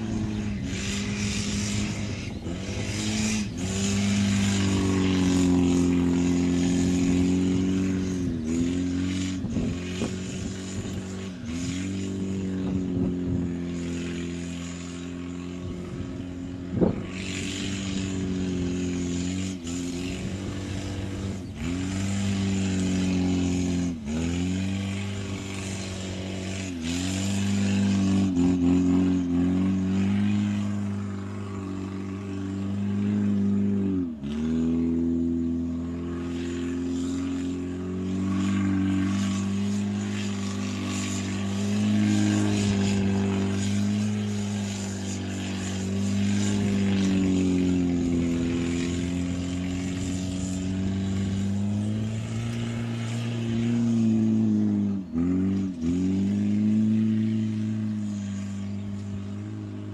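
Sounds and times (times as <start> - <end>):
buggy engine revving hard: 0.0 - 59.9.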